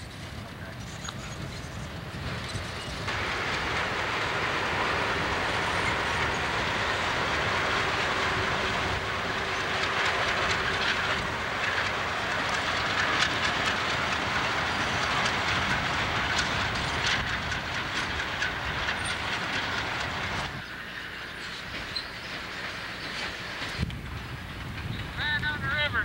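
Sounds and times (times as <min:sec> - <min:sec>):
wheels clicking over rail joints: 0:00.0 - 0:25.4
freight train rumbling: 0:00.0 - 0:26.0.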